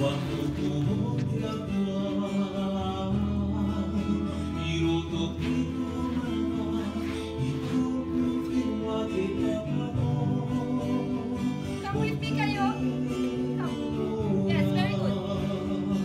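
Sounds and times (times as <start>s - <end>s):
person singing: 0.0s - 16.0s
plucked guitar: 0.0s - 16.0s.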